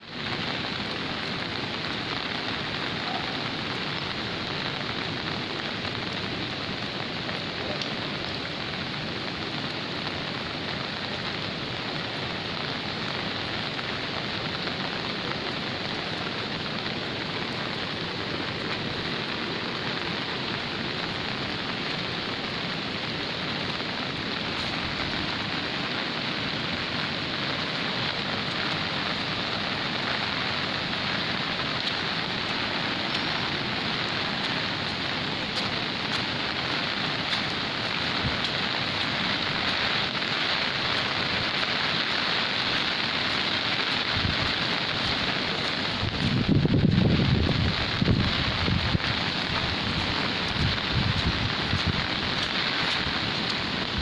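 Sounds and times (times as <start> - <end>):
rushing flood water: 0.0 - 54.0.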